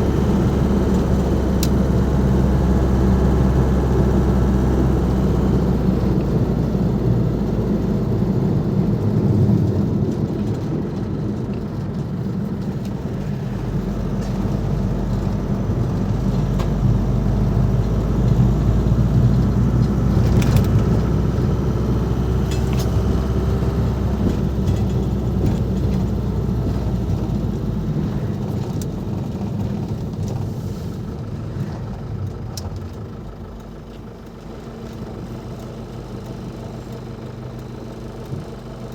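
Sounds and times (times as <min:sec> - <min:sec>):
diesel van engine drone: 0:00.0 - 0:38.9
road noise: 0:00.0 - 0:38.9.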